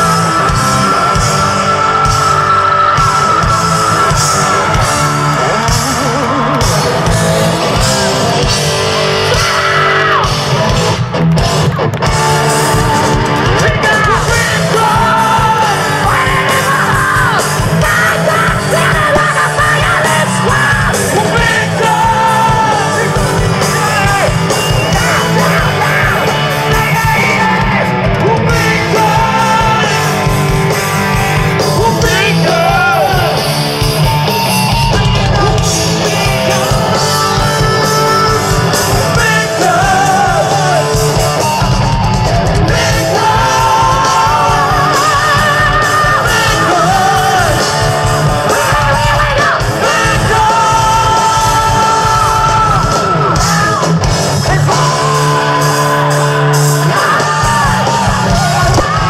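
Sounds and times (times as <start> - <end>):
man singing high shouted vocals: 0.0 - 7.2, 8.4 - 10.5, 12.4 - 59.0
distorted electric guitar: 0.0 - 59.0
live rock band playing: 0.0 - 59.0.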